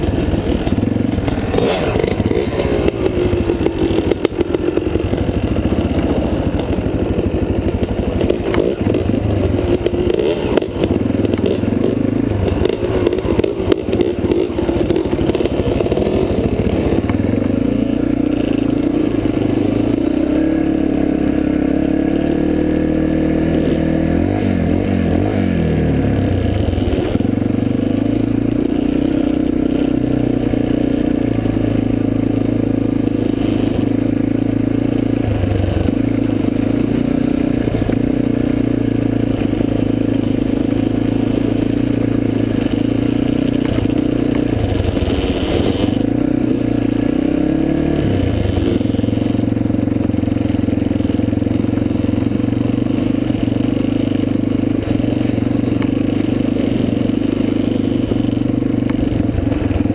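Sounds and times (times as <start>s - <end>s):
rattling and scraping on gravel: 0.0s - 20.4s, 26.5s - 59.9s
dirt bike engine revving: 0.0s - 59.9s.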